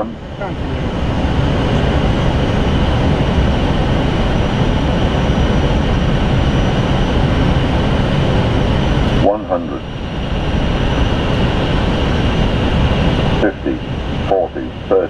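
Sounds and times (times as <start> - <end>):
rumble of airflow and engines: 0.0 - 15.0.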